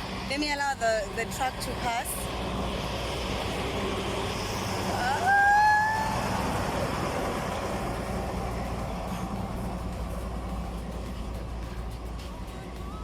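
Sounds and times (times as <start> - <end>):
heavy truck engine passing: 0.0 - 13.0
road noise: 0.0 - 13.0
clear rising tone: 2.2 - 13.0.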